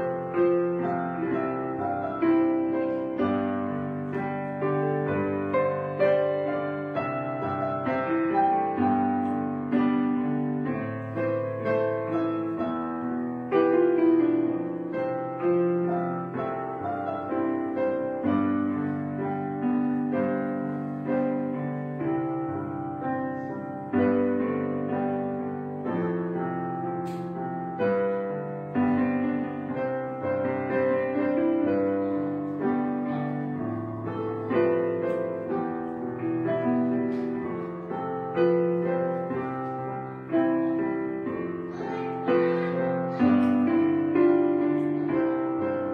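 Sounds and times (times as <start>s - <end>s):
slow piano music: 0.0s - 45.9s.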